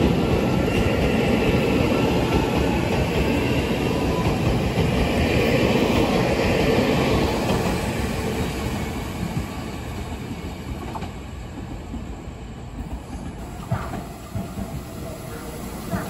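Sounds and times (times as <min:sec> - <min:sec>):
electric train pulling away: 0:00.0 - 0:10.7, 0:13.4 - 0:16.0.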